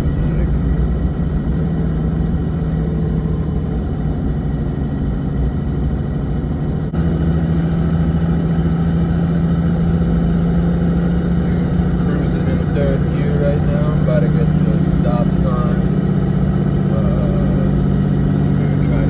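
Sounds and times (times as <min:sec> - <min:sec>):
diesel engine pulling while driving: 0:00.0 - 0:19.0.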